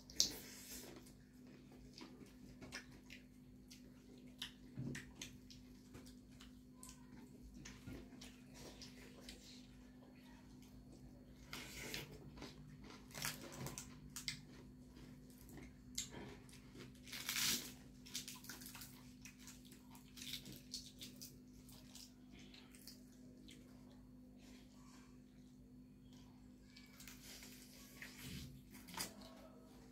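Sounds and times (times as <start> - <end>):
people chewing and lip smacking: 0.0 - 29.9.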